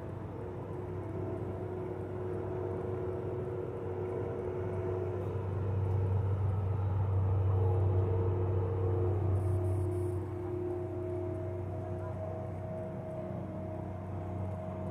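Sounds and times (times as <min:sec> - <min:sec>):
truck engine droning: 0:00.0 - 0:14.9.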